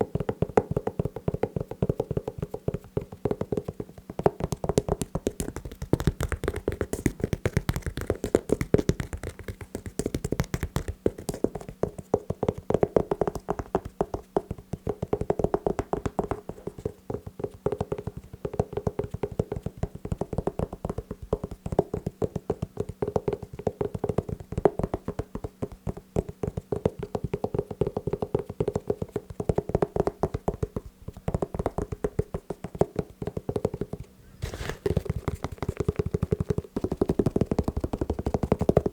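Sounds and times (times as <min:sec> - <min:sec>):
fast tapping on shoes: 0:00.0 - 0:38.9.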